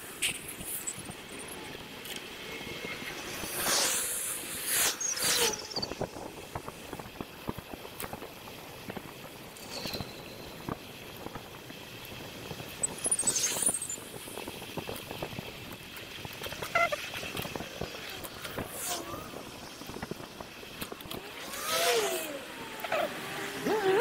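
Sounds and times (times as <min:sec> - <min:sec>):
wind noise: 0:00.0 - 0:22.7.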